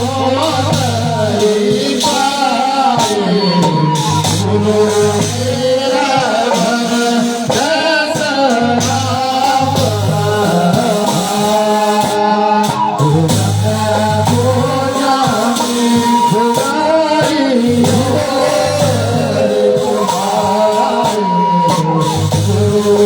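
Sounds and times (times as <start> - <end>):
instrumental accompaniment: 0.0 - 23.0
person singing: 0.0 - 23.0.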